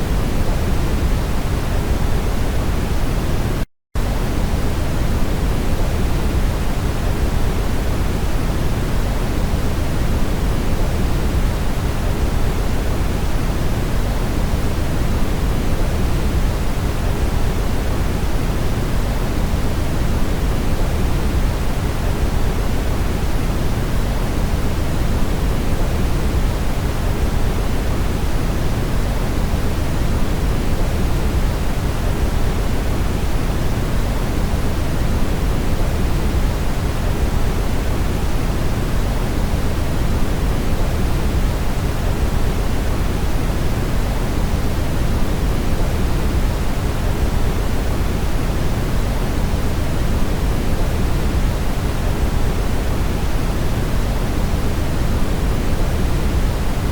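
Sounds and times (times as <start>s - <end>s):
steady brown noise: 0.0s - 56.9s.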